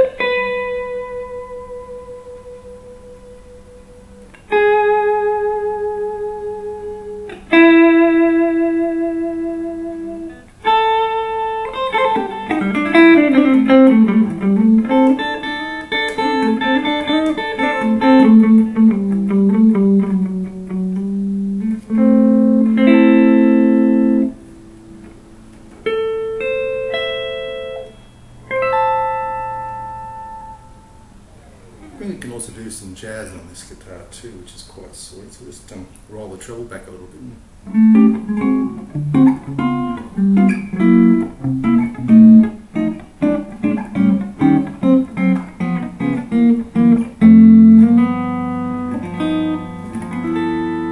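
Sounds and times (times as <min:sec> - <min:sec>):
clean electric guitar playing: 0:00.0 - 0:32.7, 0:37.4 - 0:50.9.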